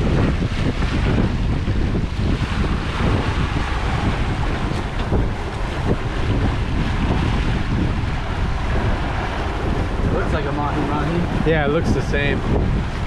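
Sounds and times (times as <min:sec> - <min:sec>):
boat wake churning: 0:00.0 - 0:13.0
wind buffeting microphone: 0:00.0 - 0:13.0.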